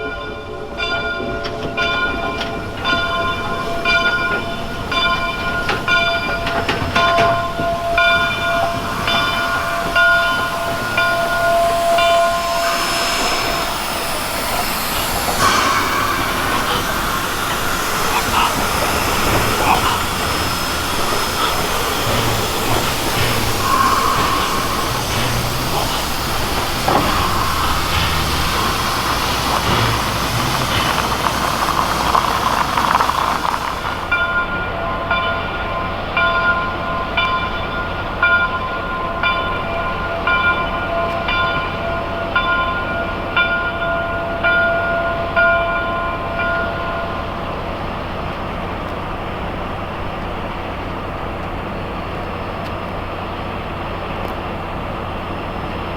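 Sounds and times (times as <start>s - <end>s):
locomotive bell ringing: 0.0s - 48.5s
steam train hissing and rattling: 0.0s - 55.9s.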